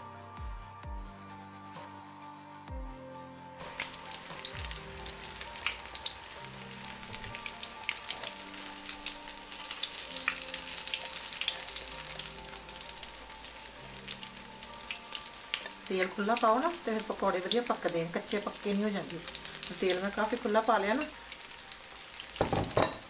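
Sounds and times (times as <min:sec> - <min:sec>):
battered food sizzling in hot oil: 0:03.6 - 0:23.0.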